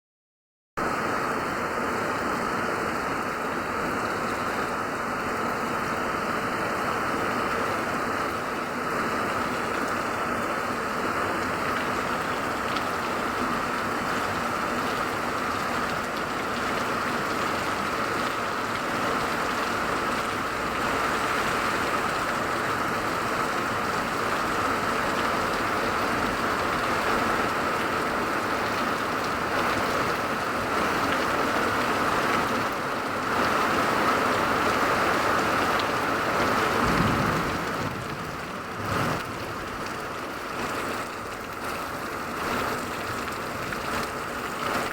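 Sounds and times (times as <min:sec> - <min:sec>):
steady rain falling: 0:00.8 - 0:44.9.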